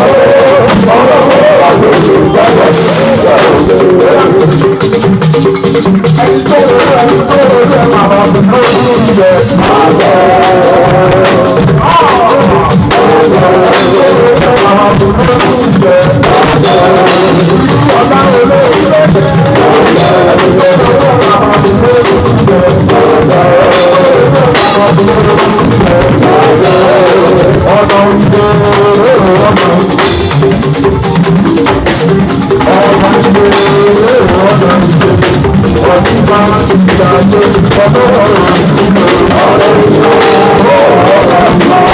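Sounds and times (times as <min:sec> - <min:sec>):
person singing: 0:00.0 - 0:41.9
steady drum beat: 0:00.0 - 0:41.9.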